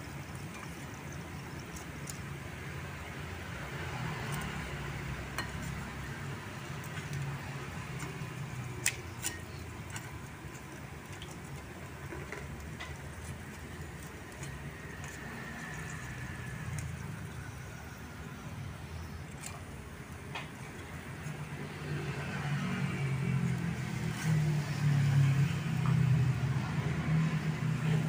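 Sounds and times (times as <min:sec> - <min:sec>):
wood fire crackling: 0:00.0 - 0:27.1.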